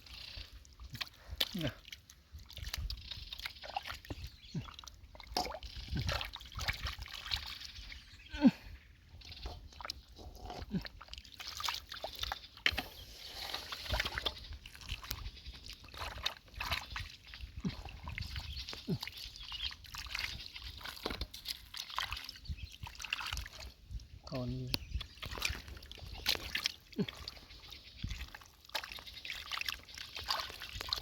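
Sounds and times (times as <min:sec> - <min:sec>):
hands squelching in wet mud: 0:00.0 - 0:31.0
mud sucking sounds: 0:00.0 - 0:31.0.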